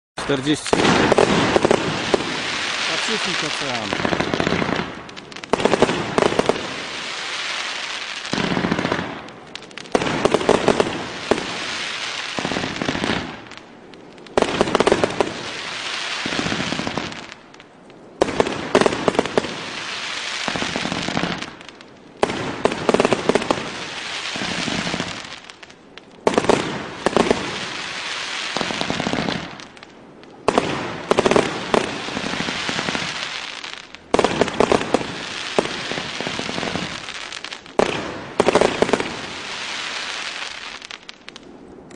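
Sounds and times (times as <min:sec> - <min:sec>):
fireworks shots and bangs: 0:00.2 - 0:13.6, 0:14.3 - 0:17.4, 0:18.2 - 0:25.6, 0:26.2 - 0:41.4
crackle of bursting fireworks: 0:00.2 - 0:41.9.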